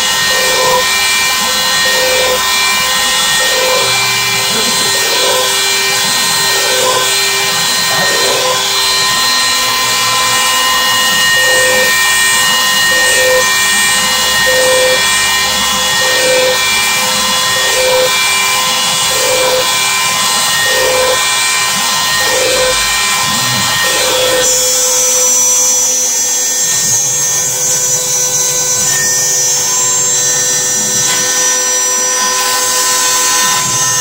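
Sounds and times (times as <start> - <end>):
router high-pitched whine: 0.0 - 34.0
stepper motors humming: 0.0 - 34.0.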